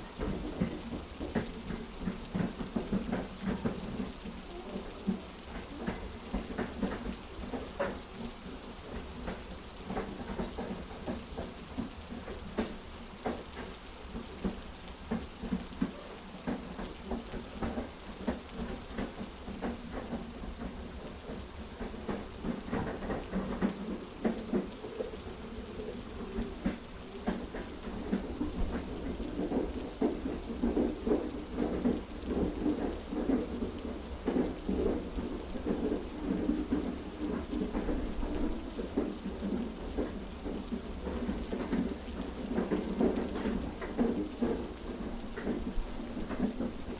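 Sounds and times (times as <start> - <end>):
heavy rain: 0.0 - 46.9
train rumbling: 0.0 - 46.9.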